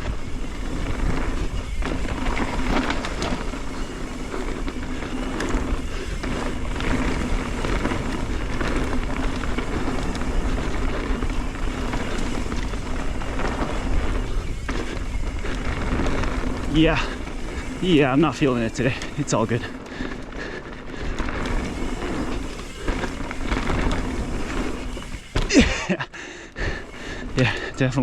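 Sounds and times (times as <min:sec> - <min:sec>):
bike chain rattling over bumps: 0:00.0 - 0:28.0
bike tyres rolling on dirt: 0:00.0 - 0:28.0.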